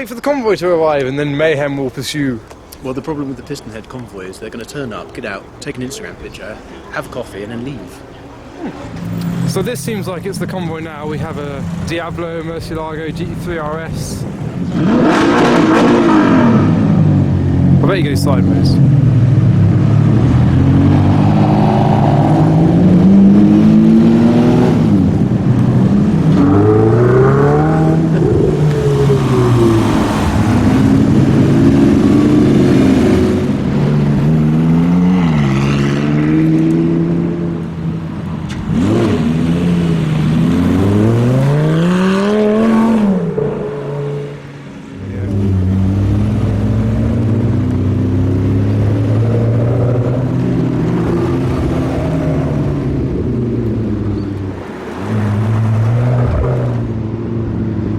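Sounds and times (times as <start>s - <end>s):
supercar engines revving: 0.0s - 57.9s.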